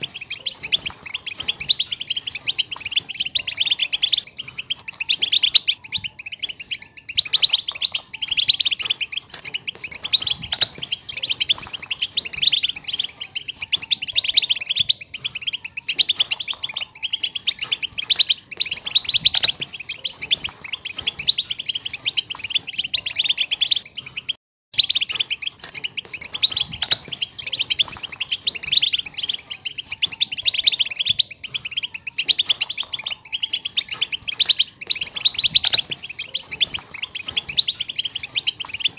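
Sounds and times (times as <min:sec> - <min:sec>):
goldfinch twittering chirps: 0:00.0 - 0:38.9.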